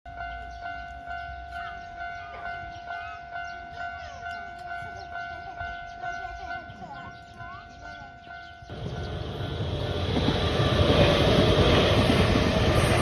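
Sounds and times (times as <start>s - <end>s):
level crossing alarm ringing: 0.1s - 13.0s.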